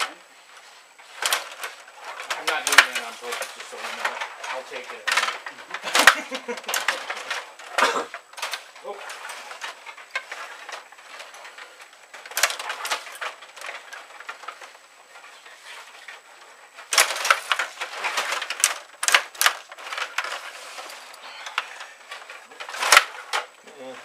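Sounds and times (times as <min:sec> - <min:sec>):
plastic players clattering on rods: 0:01.0 - 0:24.0.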